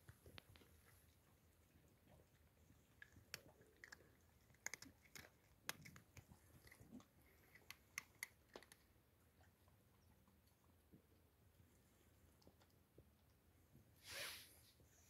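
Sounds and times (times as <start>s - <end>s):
cat chewing food: 0.0s - 13.6s.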